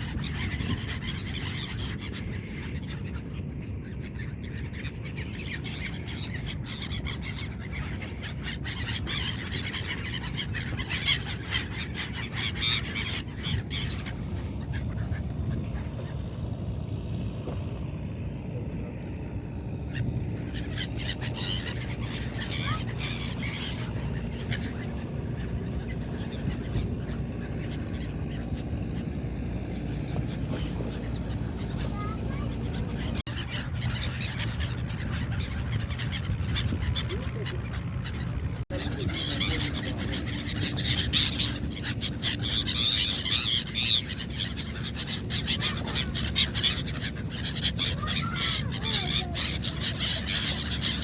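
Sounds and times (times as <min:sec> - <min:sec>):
motorboat rumbling: 0:00.0 - 0:51.0
seagulls calling: 0:00.0 - 0:51.0.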